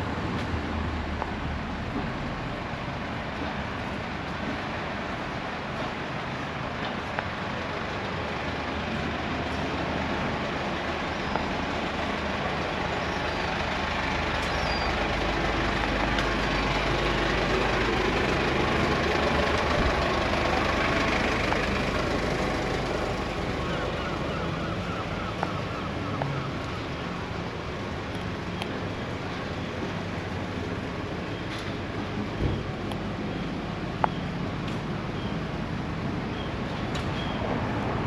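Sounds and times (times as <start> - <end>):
train passing: 0.0 - 36.8.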